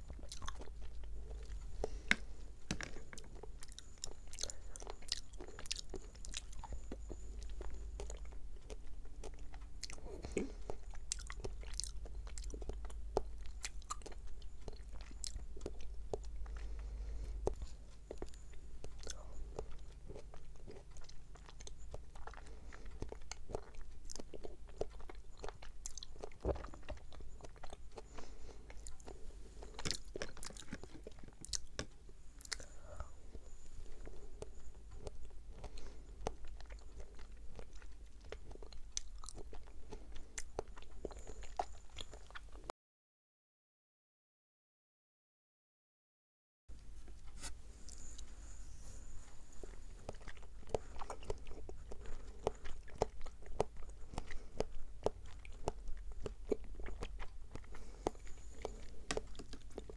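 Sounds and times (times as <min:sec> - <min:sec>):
chewing jelly balls: 0:00.0 - 0:42.7, 0:46.7 - 0:59.9
steady low hum: 0:00.0 - 0:42.7, 0:46.7 - 0:59.9.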